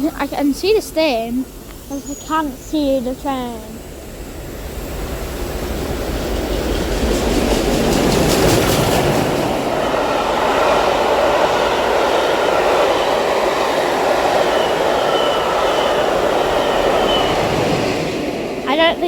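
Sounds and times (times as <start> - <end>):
train running past: 0.0 - 19.0
wheels clattering on rails: 0.0 - 19.0.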